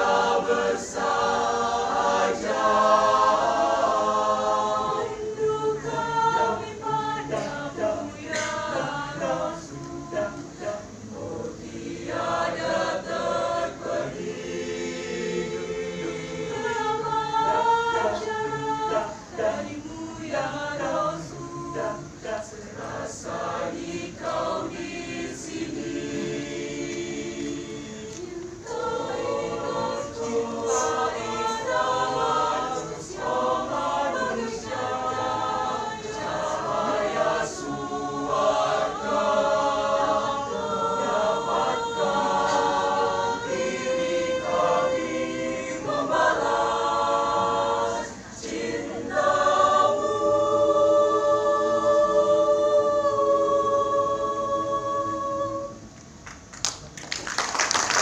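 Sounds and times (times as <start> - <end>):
mixed choir singing: 0.0 - 56.2.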